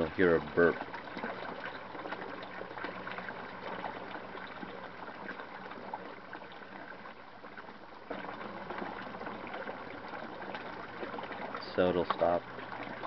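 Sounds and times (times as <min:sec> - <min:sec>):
water gushing into tank: 0:00.0 - 0:13.0.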